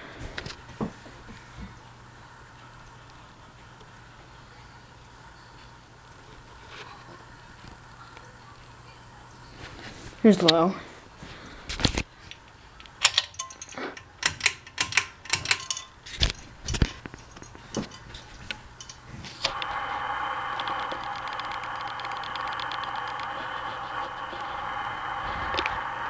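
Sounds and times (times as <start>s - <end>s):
ceiling fan clicks and rattles: 0.0s - 26.0s
ceiling fan humming: 0.0s - 26.0s.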